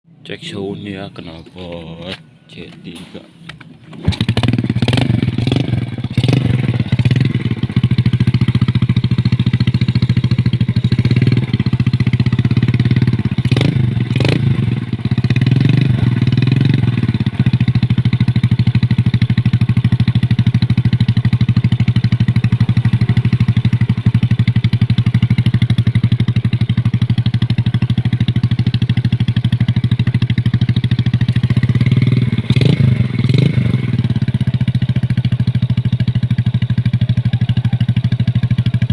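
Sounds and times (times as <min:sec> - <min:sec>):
motorcycle engine revving and idling: 0:04.0 - 0:38.9.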